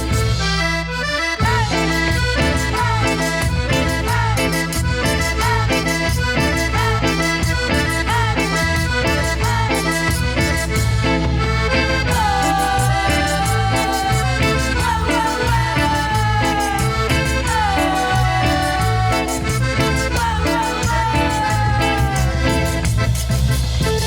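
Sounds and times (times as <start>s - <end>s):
cumbia band playing: 0.0s - 24.0s.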